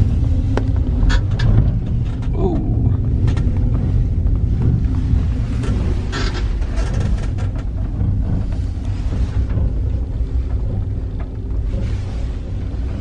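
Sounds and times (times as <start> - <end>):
gondola cabin low rumble: 0.0 - 13.0
cabin rattling: 0.6 - 13.0.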